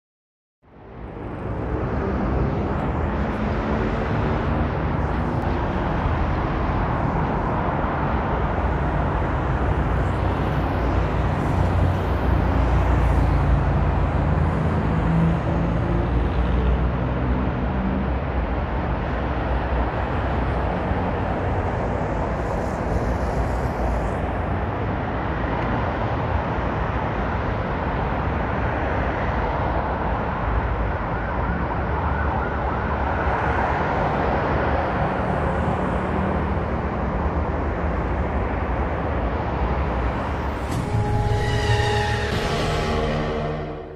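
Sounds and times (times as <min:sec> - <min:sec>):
road traffic passing: 0:00.7 - 0:43.9.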